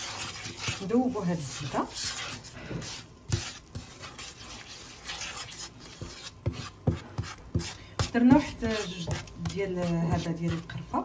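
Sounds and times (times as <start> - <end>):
wooden spatula scraping pan: 0.0 - 11.0.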